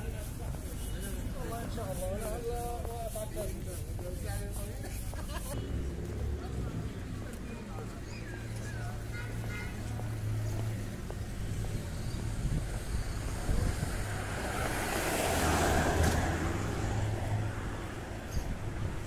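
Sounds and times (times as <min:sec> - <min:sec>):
passing traffic rush: 0:00.0 - 0:19.0.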